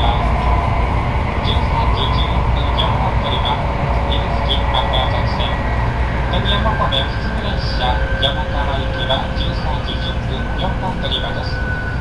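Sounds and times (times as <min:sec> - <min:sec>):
train interior rumble and hiss: 0:00.0 - 0:12.0.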